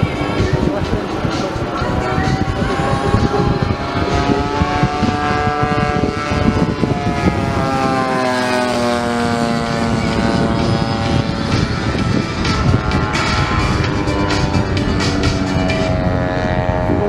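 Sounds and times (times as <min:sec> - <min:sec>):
model aircraft propeller drone: 0:00.0 - 0:17.0.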